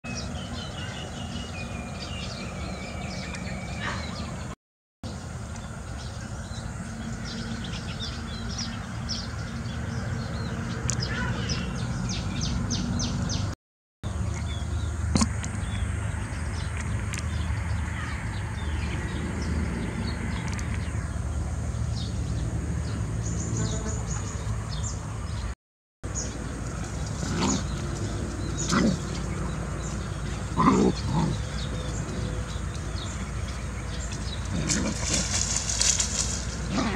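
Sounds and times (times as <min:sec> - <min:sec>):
songbirds chirping: 0:00.1 - 0:36.9.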